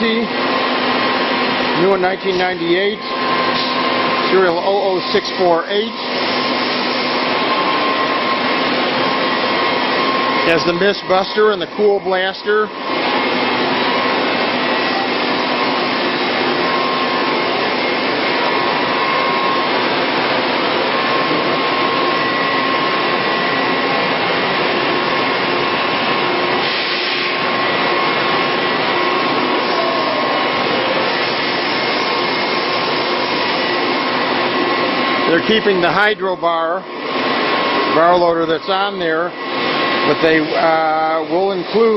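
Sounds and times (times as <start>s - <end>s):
machine-shop equipment whirring: 0.0s - 41.9s.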